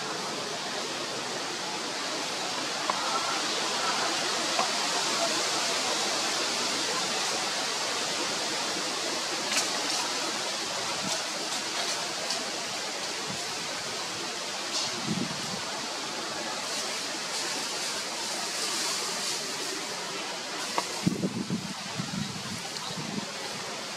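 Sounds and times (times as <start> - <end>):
outdoor background hiss: 0.0 - 23.9.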